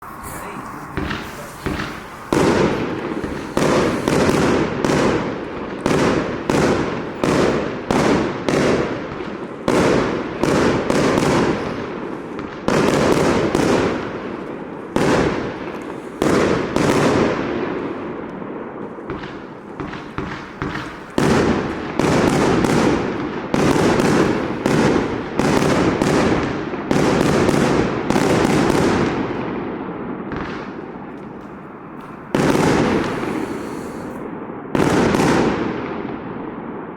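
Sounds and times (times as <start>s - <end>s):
firework crackling: 0.0s - 29.6s, 30.3s - 35.8s
firework shots: 0.0s - 36.9s.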